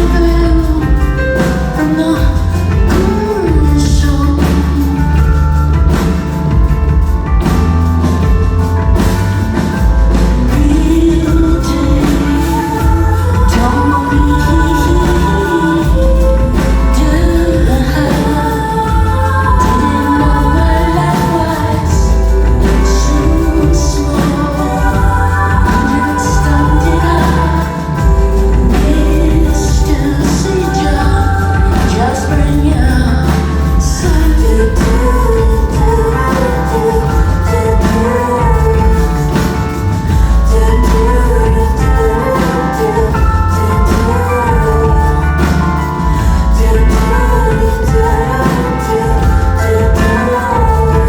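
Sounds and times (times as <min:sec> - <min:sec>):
deep steady bass line: 0:00.0 - 0:51.0
pop-rock band: 0:00.0 - 0:51.0
woman singing: 0:00.0 - 0:51.0.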